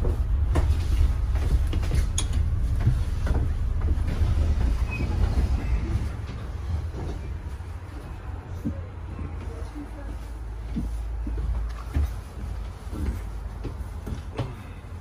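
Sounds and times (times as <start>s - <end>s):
bus body knocks and rattles: 0.0s - 15.0s
bus engine and road rumble: 0.0s - 15.0s.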